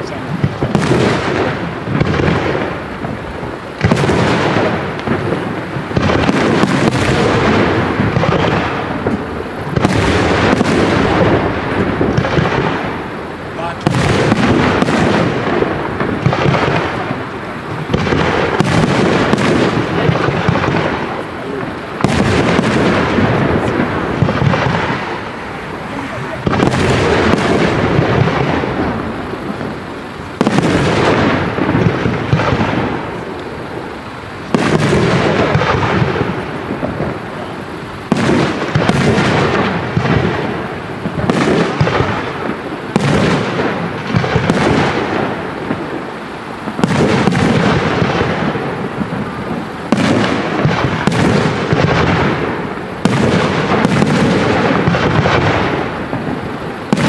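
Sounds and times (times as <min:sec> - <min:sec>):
firework shells bursting: 0:00.0 - 0:57.0
rumbling echo: 0:00.0 - 0:57.0.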